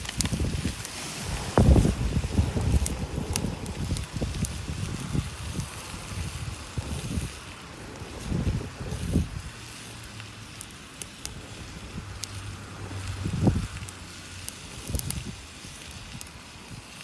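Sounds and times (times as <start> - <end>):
campfire crackling and popping: 0.0 - 17.0
wind rumble on microphone: 0.0 - 17.0.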